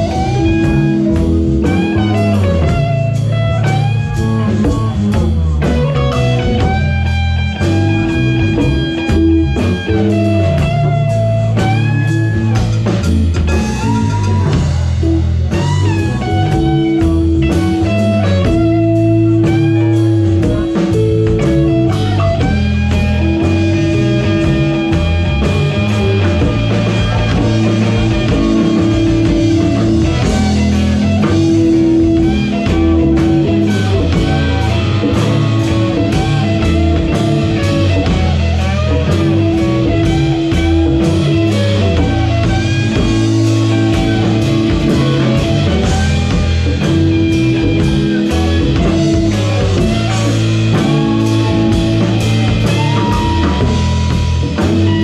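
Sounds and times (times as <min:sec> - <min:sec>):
drum kit: 0:00.0 - 0:55.0
electric bass: 0:00.0 - 0:55.0
electric guitar lead: 0:00.0 - 0:55.0.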